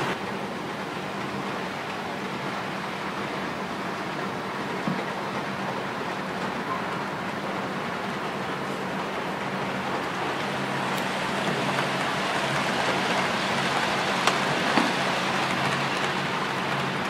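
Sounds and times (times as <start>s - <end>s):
train rushing: 0.0s - 17.0s.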